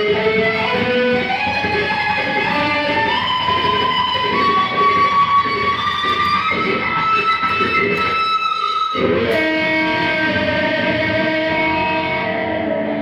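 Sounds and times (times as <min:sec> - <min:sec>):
electric guitar sustained lead notes: 0:00.0 - 0:13.0.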